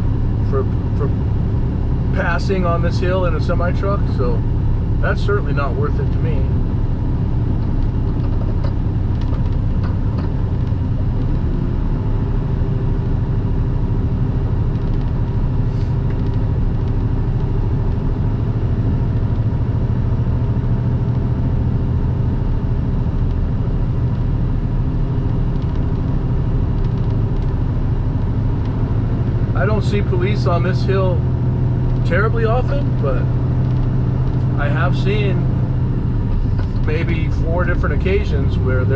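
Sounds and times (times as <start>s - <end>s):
road noise: 0.0s - 38.9s
truck diesel engine drone: 0.0s - 38.9s.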